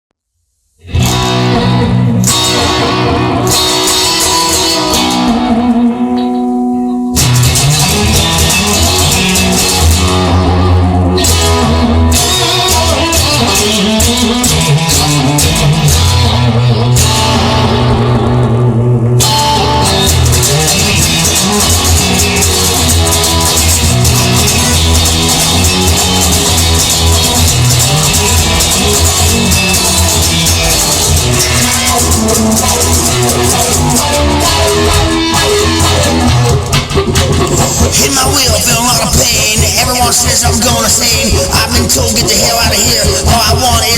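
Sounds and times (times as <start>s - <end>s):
bass guitar: 0.8s - 43.9s
drum kit: 0.8s - 43.9s
guitar playing: 0.8s - 43.9s.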